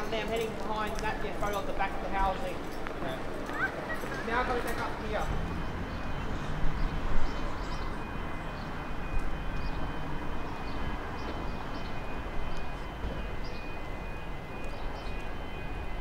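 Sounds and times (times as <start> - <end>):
electric train approaching: 0.0 - 16.0.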